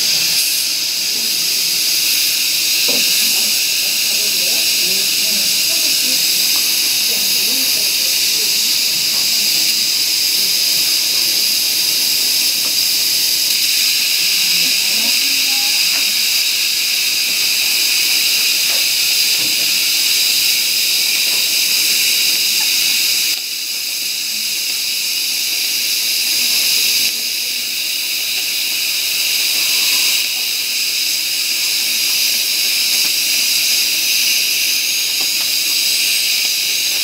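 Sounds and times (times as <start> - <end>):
dental suction tube hissing: 0.0 - 37.0.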